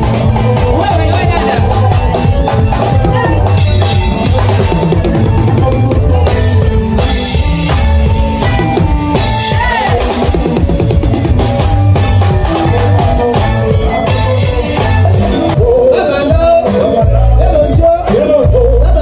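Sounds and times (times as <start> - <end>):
bass line: 0.0 - 19.0
drum kit with snare and rimshots: 0.0 - 19.0
instrumental band playing: 0.0 - 19.0.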